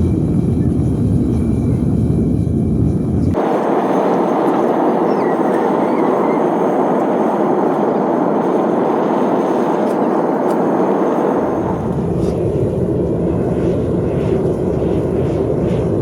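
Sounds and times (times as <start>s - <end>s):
furnace burner roaring: 0.0s - 16.0s.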